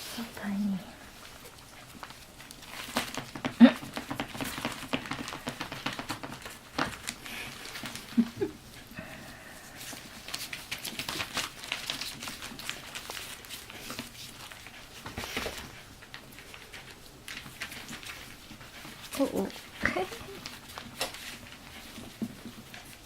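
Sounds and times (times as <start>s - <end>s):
puppies scratching and rustling: 0.0s - 23.0s.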